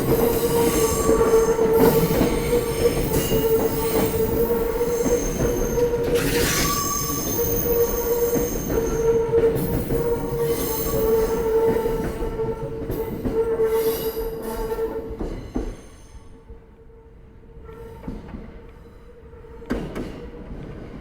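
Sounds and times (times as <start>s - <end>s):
train wheels clattering on rails: 0.0s - 16.1s, 19.5s - 21.0s.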